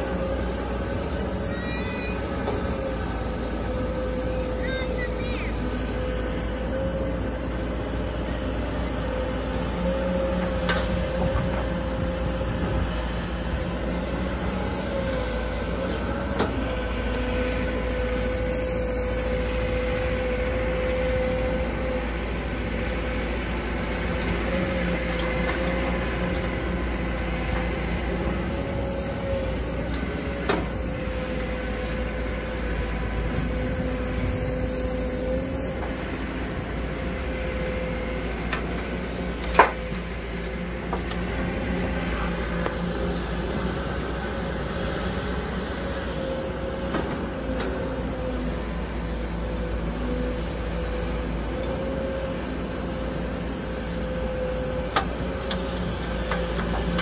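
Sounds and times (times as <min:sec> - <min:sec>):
excavator engine running: 0:00.0 - 0:57.0
hydraulic whine: 0:00.0 - 0:57.0.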